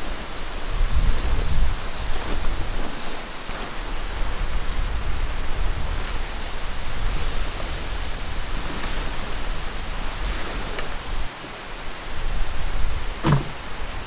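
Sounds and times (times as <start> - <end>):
steady outdoor hiss: 0.0 - 14.0
tent fabric rustling and flapping: 0.0 - 14.0.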